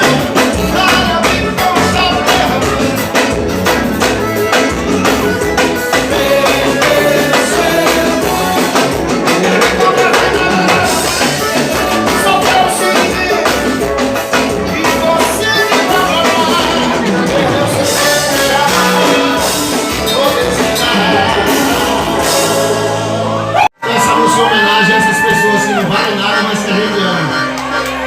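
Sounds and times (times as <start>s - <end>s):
drum beat: 0.0s - 23.1s
live band music through pa: 0.0s - 28.0s.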